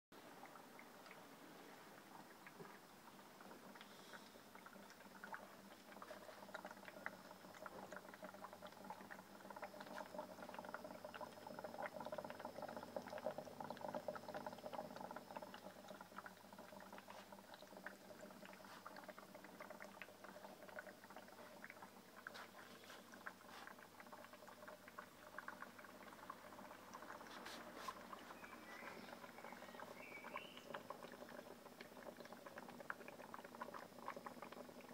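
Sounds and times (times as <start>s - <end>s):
water crackling in a heating pot: 0.2s - 34.9s.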